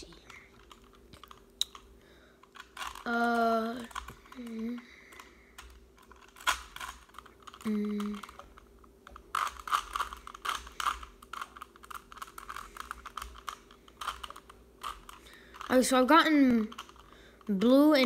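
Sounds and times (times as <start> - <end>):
puzzle cube clicks and rattles: 0.0 - 18.0.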